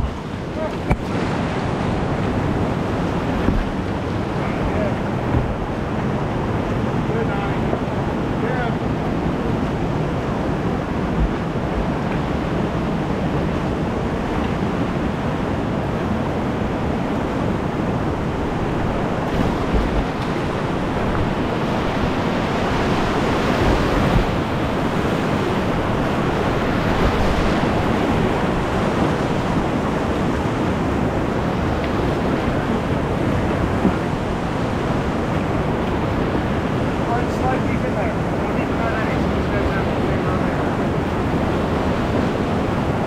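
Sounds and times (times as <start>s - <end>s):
river rapids rushing: 0.0s - 43.0s.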